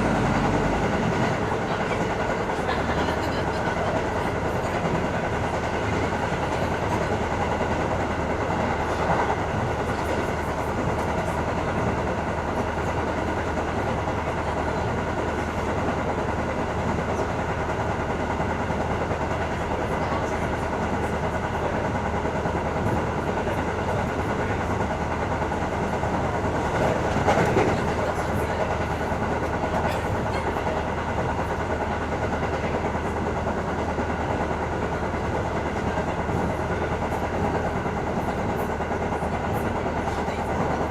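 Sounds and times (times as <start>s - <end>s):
diesel railcar engine drone: 0.0s - 40.9s.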